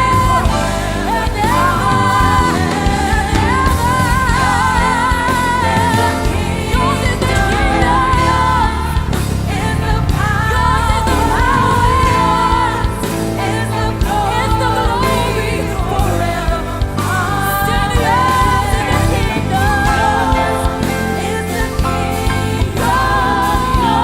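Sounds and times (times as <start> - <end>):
band accompaniment: 0.0 - 24.0
singers: 0.0 - 24.0
steady bass: 0.0 - 24.0.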